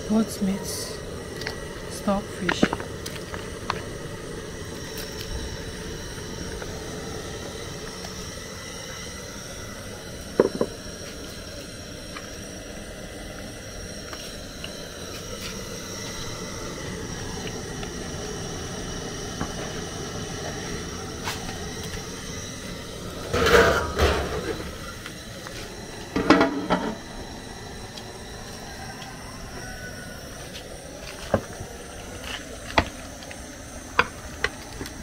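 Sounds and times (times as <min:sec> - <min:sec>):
burner rumbling: 0:00.0 - 0:35.0.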